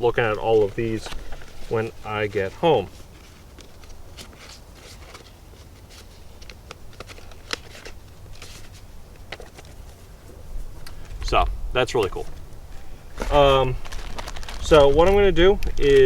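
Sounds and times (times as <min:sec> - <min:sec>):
paper cards rustling: 0:00.0 - 0:16.0.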